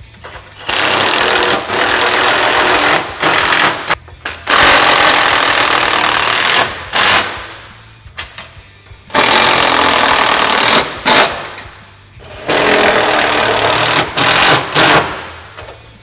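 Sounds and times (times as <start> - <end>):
impact wrench hammering: 0.2 - 8.4, 9.1 - 16.0.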